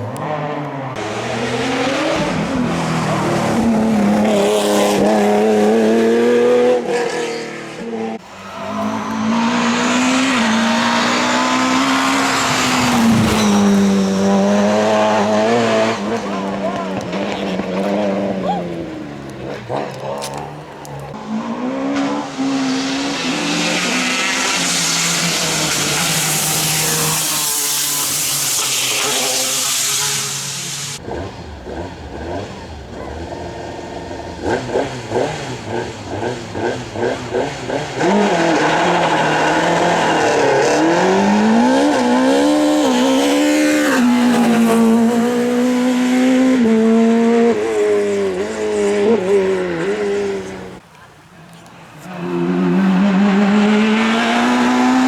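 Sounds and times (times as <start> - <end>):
rally car engine revving: 0.0 - 50.8, 52.1 - 55.0.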